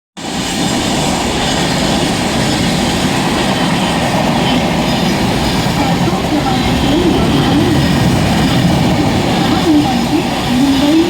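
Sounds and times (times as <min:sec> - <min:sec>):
train wheels rumbling on track: 0:00.2 - 0:11.0.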